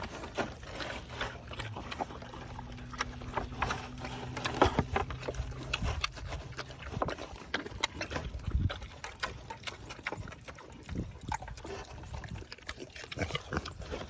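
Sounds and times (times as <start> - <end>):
low steady hum: 0.0 - 12.4
pigs chewing and smacking: 0.0 - 14.0.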